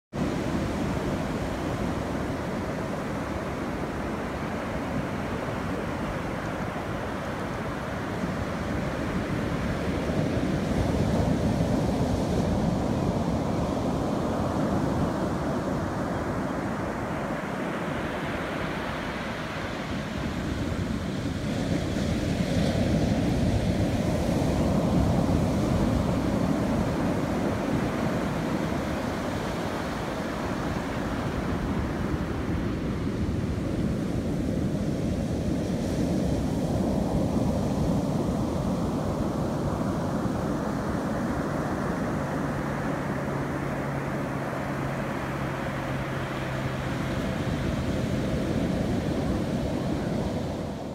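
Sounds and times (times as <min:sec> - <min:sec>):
waves breaking on sandy beach: 0:00.1 - 0:50.9.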